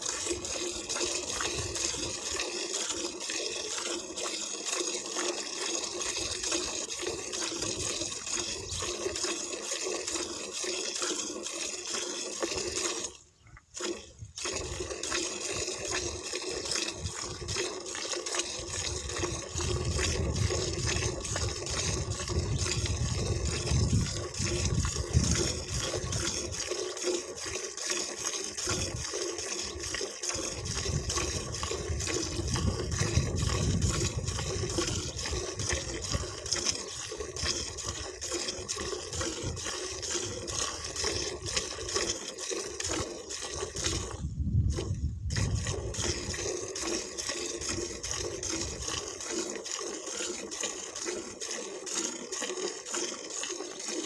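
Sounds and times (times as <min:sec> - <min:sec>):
liquid streaming and splashing: 0:00.0 - 0:54.0.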